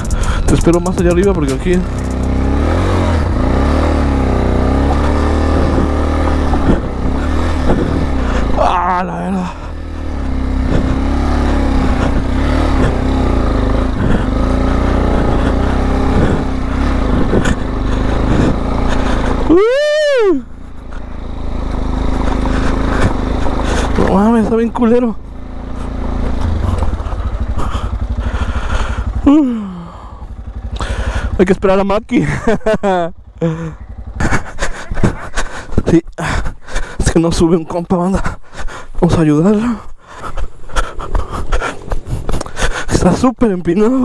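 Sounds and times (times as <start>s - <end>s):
motorcycle engine running under load: 0.0s - 44.0s.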